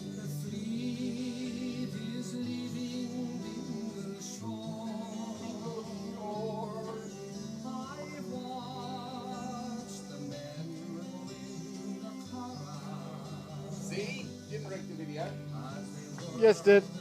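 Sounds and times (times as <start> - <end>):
acoustic guitar: 0.0 - 17.0
man singing: 0.0 - 17.0.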